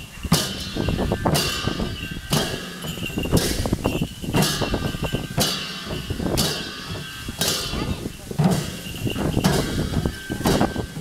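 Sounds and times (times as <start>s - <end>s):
barrel drums beaten: 0.0s - 11.0s
hand cymbals clashing: 0.0s - 11.0s.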